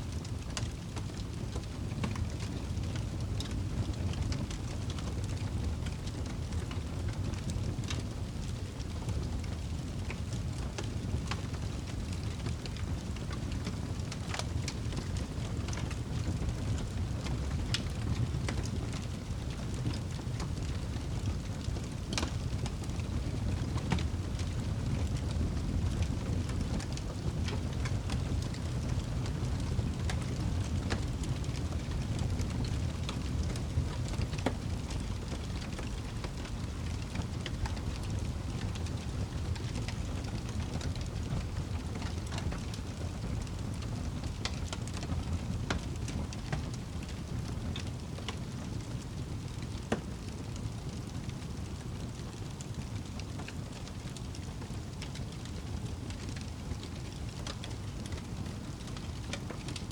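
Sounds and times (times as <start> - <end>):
fire flames rumbling: 0.0 - 59.9
logs crackling and popping: 0.1 - 59.9.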